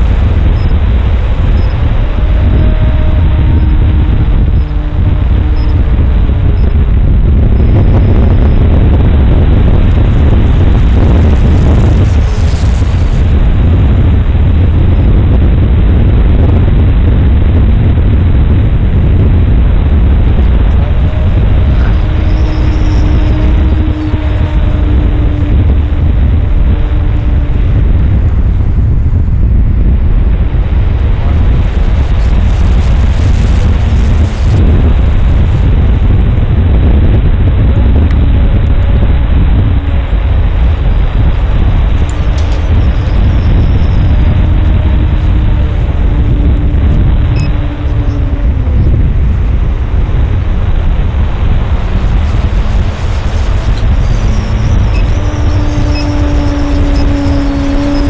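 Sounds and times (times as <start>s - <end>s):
model airplane engine rumble: 0.0s - 58.0s
wind buffeting microphone: 0.0s - 58.0s.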